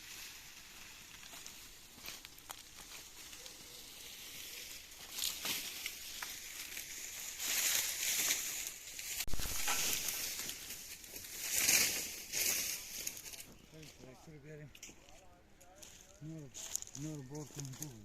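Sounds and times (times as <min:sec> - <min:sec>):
dry vegetation rustling and crunching: 0:00.0 - 0:18.0.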